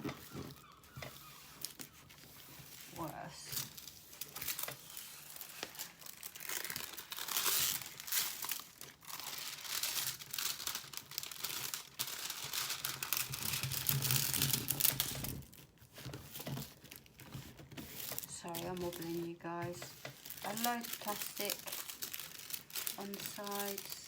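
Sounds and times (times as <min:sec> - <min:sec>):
plastic film crinkling: 0:00.0 - 0:24.0.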